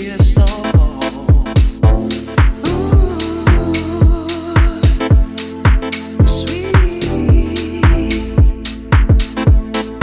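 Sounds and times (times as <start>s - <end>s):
deep house music: 0.0s - 10.0s
deep kick drums: 0.2s - 9.7s.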